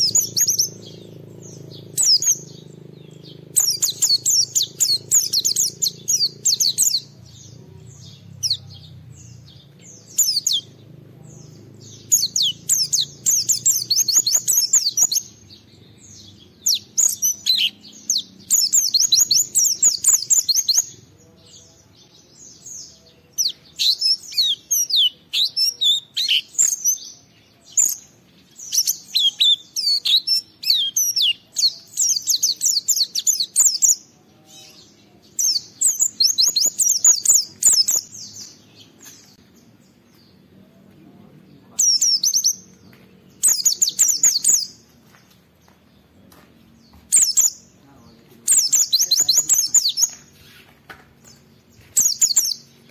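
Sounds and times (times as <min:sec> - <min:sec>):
bird high twittering song: 0:00.0 - 0:52.9.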